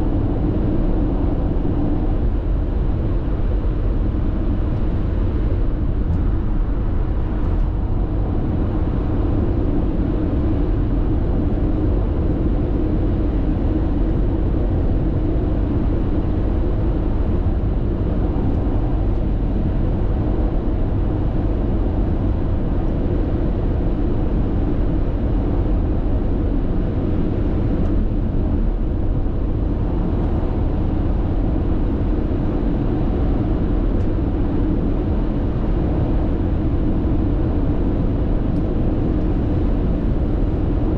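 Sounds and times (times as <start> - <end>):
car road and tyre noise: 0.0 - 40.9.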